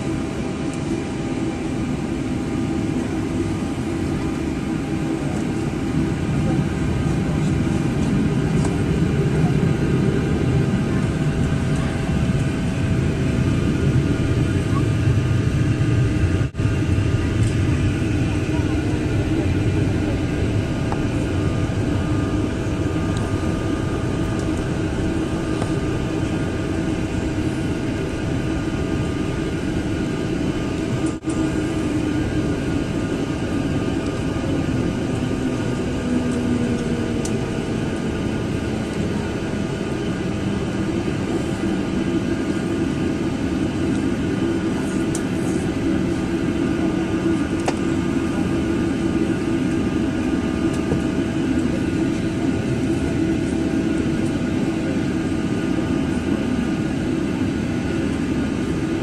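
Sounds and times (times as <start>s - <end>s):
jet engines running: 0.0s - 59.0s
steady humming tones: 0.0s - 59.0s.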